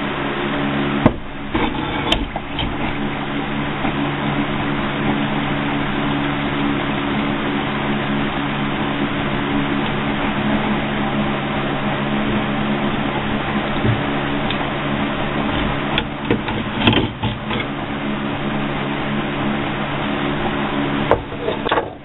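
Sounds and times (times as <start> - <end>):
electric hum and hiss: 0.0 - 22.0.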